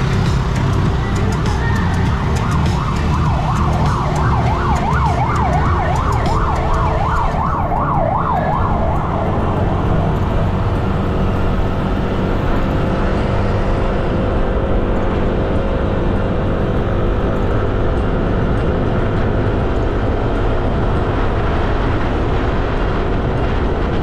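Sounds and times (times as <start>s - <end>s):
emergency vehicle siren: 0.0s - 24.0s
wind and scooter engine rumble: 0.0s - 24.0s.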